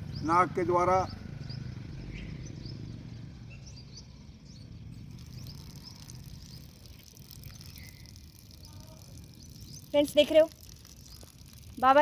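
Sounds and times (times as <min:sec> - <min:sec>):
faint bird chirps: 0:01.0 - 0:11.7.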